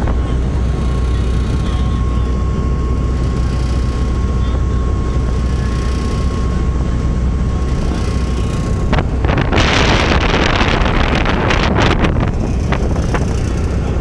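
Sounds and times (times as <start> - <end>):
wind on microphone: 0.0 - 4.2, 5.3 - 14.0
boat engine rumble: 0.0 - 14.0
thin steady whine: 0.0 - 14.0.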